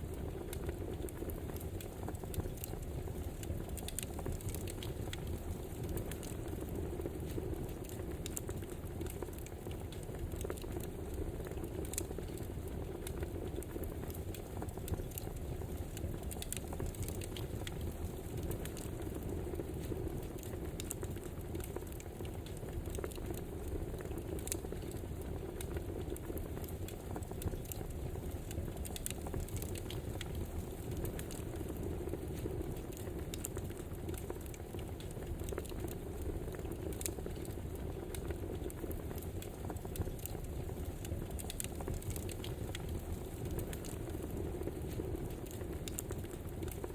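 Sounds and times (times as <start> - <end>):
campfire crackling: 0.0 - 46.9.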